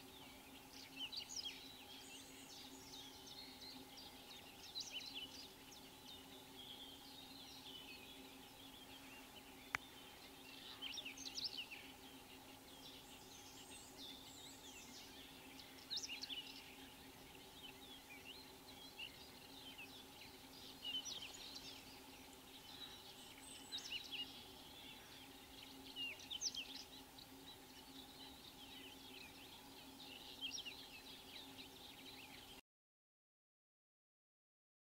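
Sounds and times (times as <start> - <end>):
birds singing and chirping: 0.0 - 32.6
steady low hum: 0.0 - 32.6.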